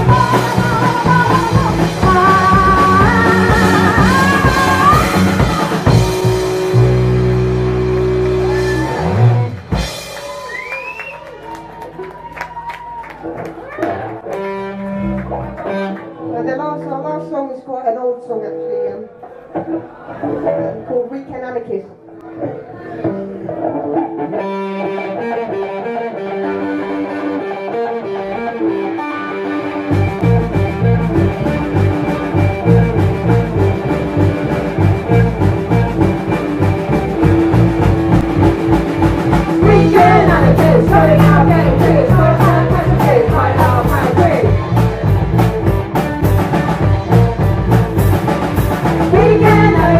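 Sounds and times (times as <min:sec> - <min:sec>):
guitar picking melodic line: 0:00.0 - 0:10.2, 0:12.0 - 0:17.1, 0:22.0 - 0:49.9
live rock band playing: 0:00.0 - 0:17.3, 0:22.0 - 0:49.9.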